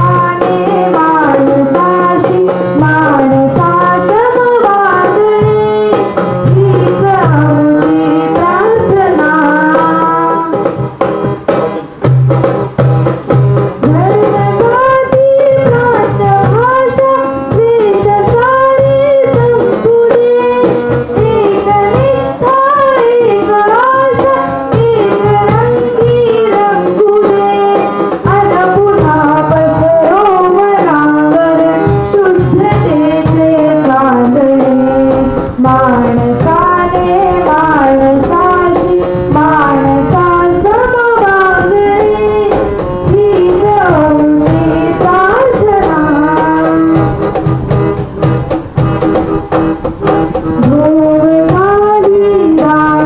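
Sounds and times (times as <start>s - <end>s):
girl singing into a microphone: 0.0s - 10.8s, 13.7s - 47.1s, 50.5s - 53.0s
harmonium: 0.0s - 53.0s.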